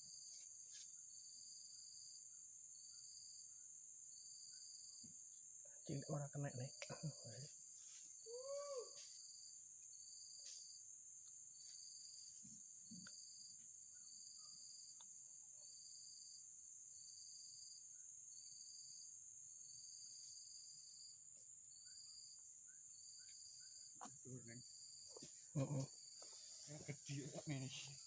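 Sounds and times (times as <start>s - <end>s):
insect chirping in short pulses: 0.0s - 28.0s.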